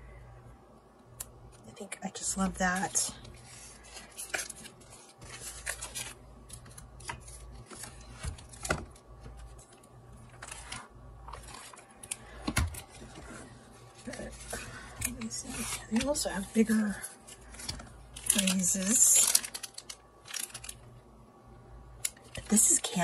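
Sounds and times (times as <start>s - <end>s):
paper and plastic rustling: 2.3s - 20.9s.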